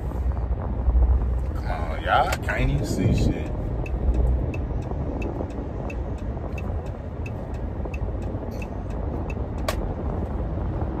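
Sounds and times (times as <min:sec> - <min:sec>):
road rumble inside vehicle: 0:00.0 - 0:11.0
turn signal ticking: 0:00.2 - 0:11.0.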